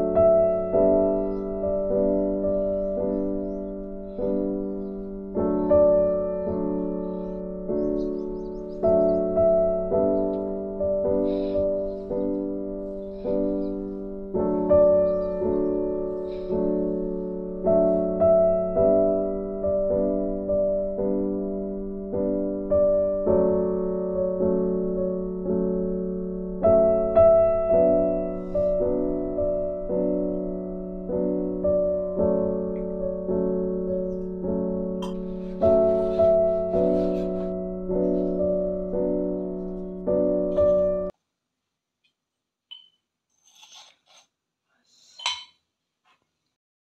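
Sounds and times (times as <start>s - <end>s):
slow gentle piano music: 0.0s - 41.2s.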